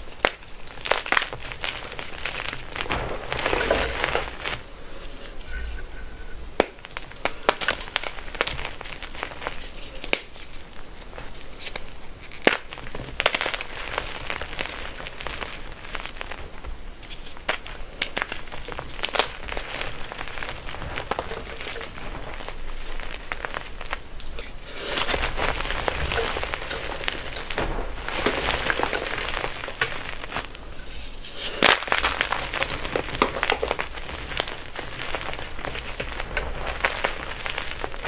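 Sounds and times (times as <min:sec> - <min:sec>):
chalk crushed by hand: 0:00.0 - 0:05.9, 0:06.6 - 0:38.0.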